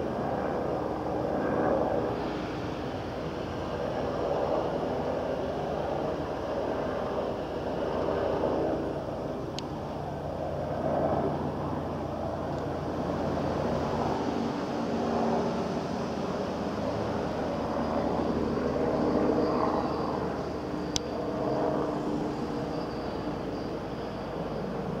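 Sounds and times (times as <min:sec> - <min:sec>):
helicopter rotor drone: 0:00.0 - 0:25.0.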